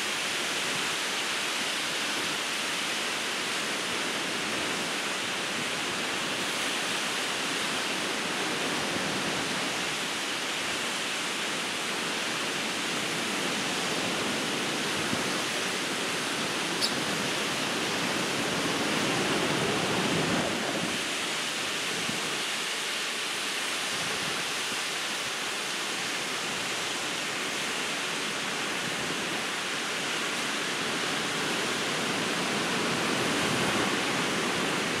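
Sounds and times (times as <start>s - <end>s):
ocean surf breaking on beach: 0.0s - 35.0s.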